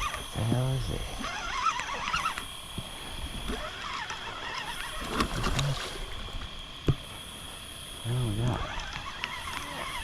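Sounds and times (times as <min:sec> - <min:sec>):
night insects droning: 0:00.0 - 0:10.0.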